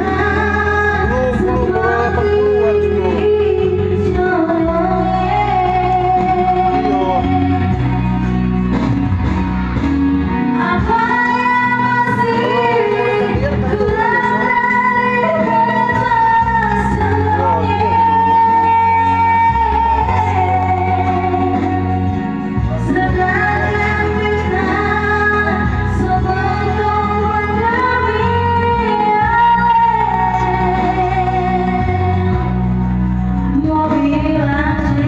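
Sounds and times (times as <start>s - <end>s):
guitar and bass: 0.0s - 35.0s.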